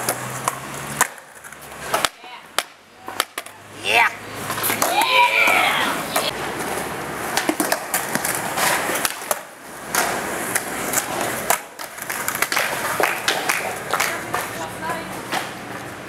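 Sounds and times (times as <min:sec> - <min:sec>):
skateboard clacking on ground: 0:00.0 - 0:16.0
skateboard wheels rolling on concrete: 0:00.0 - 0:16.0.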